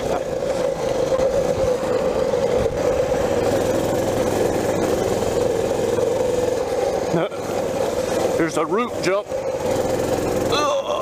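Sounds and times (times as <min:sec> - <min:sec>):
small motorbike engine running: 0:00.0 - 0:11.0
steady rushing noise: 0:00.0 - 0:11.0.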